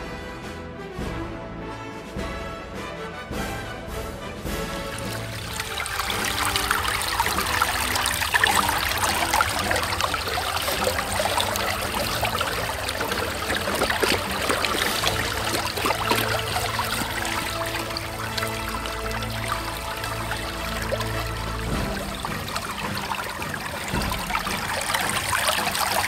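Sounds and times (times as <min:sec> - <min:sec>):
stream trickling and splashing: 0:04.5 - 0:26.0.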